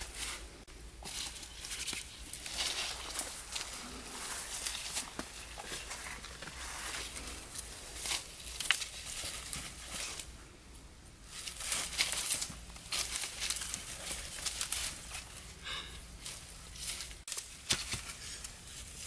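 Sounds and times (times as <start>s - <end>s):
rustling in dry leaves: 0.0s - 19.0s.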